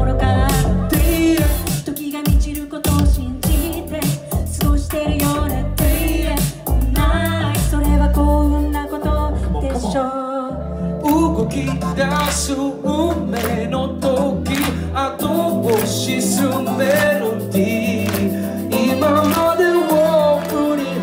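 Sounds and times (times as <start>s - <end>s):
backing track with bass line: 0.0s - 21.0s
person singing into microphone: 0.0s - 21.0s.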